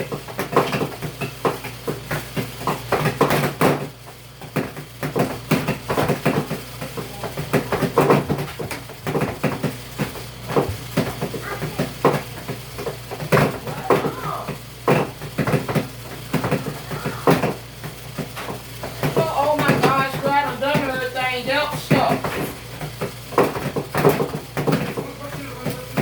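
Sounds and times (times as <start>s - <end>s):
knocks and clatter: 0.0s - 26.0s
washing machine motor hum: 0.0s - 26.0s.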